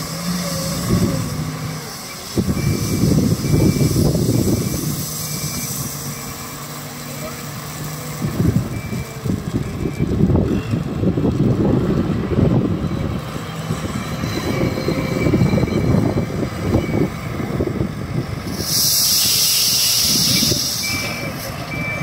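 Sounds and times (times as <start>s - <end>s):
diesel engine rumbling under load: 0.0s - 22.0s.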